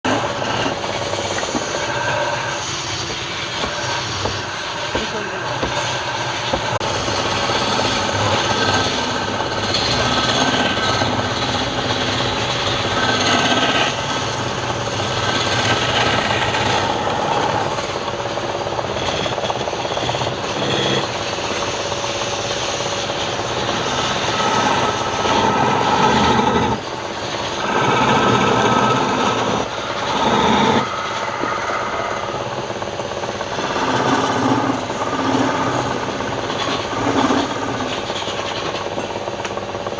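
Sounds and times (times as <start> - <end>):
wood rasping: 0.0 - 38.8
power tool motor running: 0.0 - 39.9.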